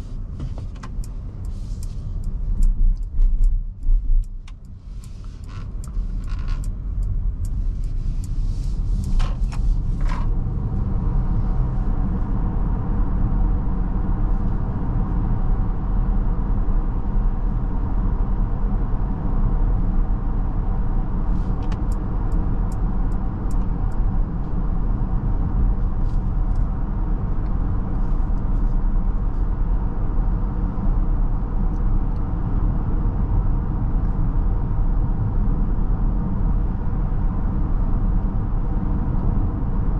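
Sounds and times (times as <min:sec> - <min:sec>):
road and tyre rumble in car cabin: 0:00.0 - 0:39.9.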